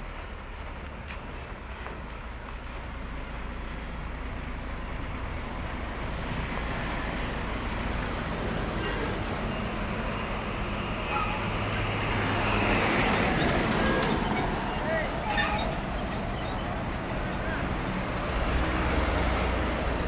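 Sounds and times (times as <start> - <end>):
diesel engine idling: 0.1 - 20.0.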